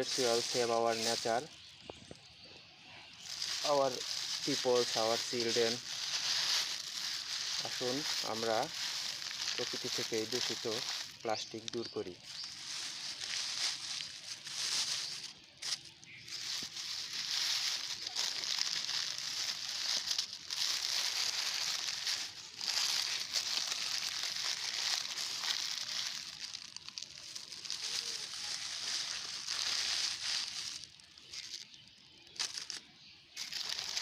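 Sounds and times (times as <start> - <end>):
plastic bag crinkling: 0.0 - 1.6, 3.1 - 34.0.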